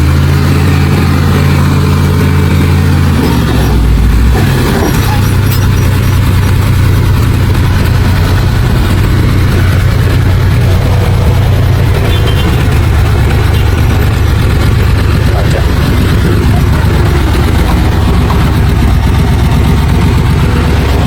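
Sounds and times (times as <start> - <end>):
heavy diesel engine droning: 0.0 - 21.0.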